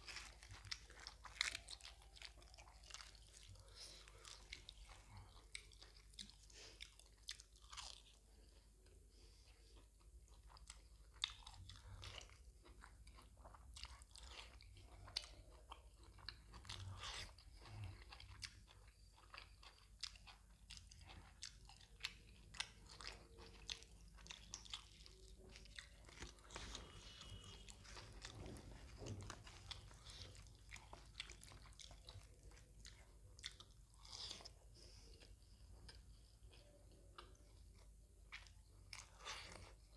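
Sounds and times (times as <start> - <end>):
mouth chewing sounds: 0.0 - 39.9.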